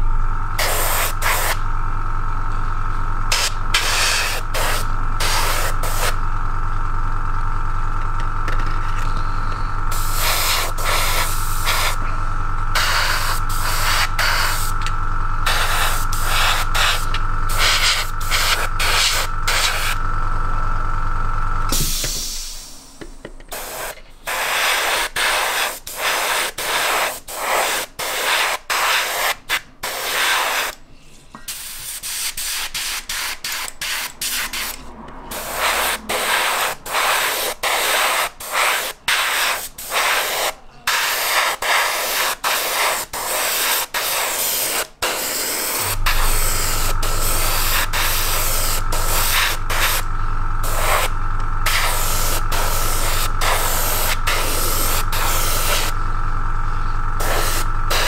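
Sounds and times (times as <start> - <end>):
air compressor humming: 0.0 - 58.0
airbrush hissing bursts: 0.6 - 1.6, 3.2 - 6.2, 9.8 - 20.0, 21.7 - 30.8, 31.5 - 56.1, 56.7 - 58.0.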